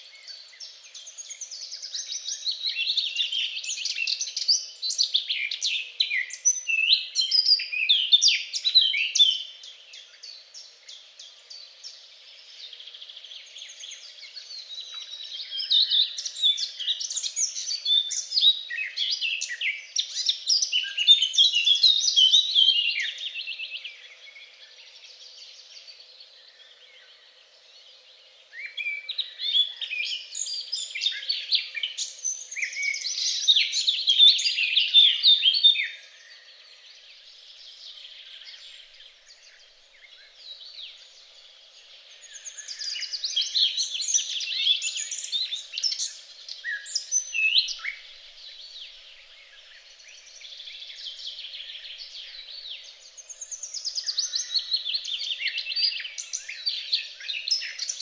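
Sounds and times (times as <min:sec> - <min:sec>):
soft bird chirps: 0:00.0 - 0:58.0
songbirds singing: 0:00.0 - 0:58.0.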